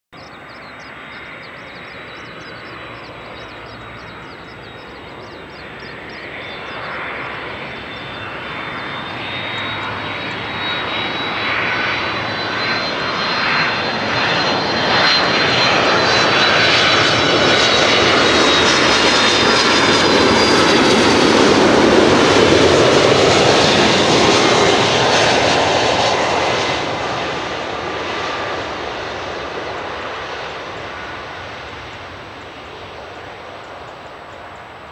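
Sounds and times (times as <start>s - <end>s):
jet engines: 0.2s - 34.9s.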